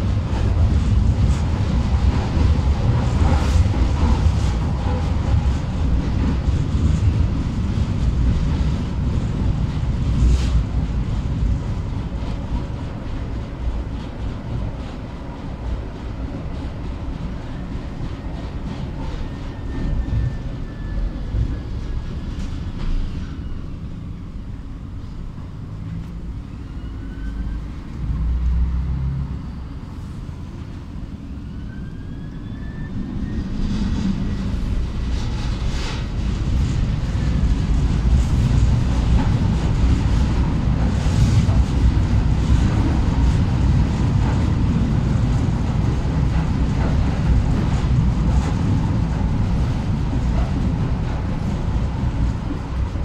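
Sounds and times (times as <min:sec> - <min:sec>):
tram wheels rumbling on rails: 0:00.0 - 0:53.0.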